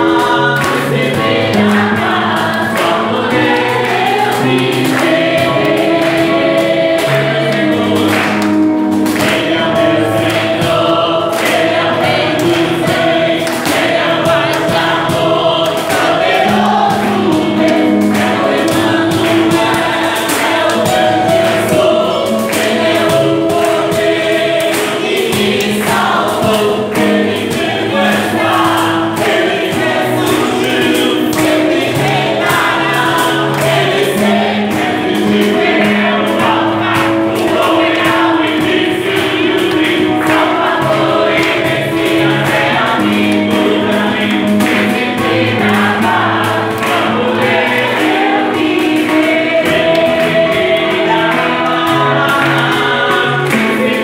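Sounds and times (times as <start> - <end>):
cajon beat: 0.0 - 54.0
crowd singing along: 0.0 - 54.0
held chords: 0.0 - 54.0
man singing through microphone: 0.0 - 54.0.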